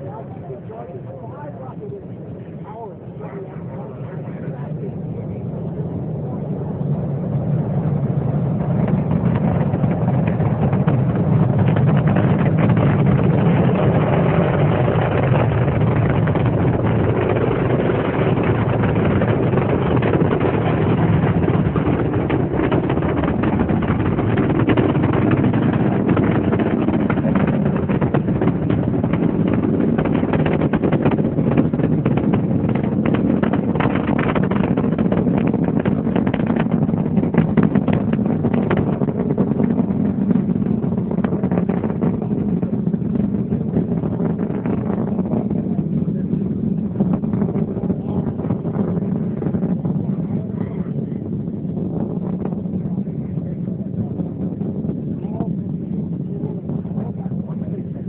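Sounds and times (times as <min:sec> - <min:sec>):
deep rocket rumble with crackle: 0:00.0 - 0:58.0.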